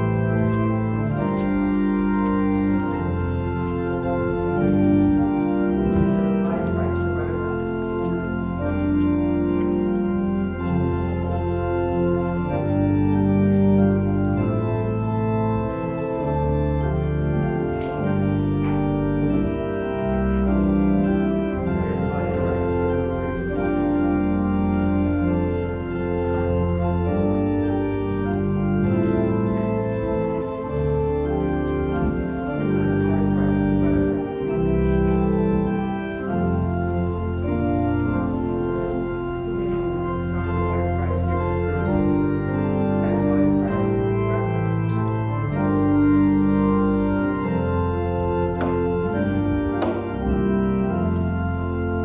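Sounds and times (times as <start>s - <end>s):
organ playing held chords: 0.0s - 52.0s.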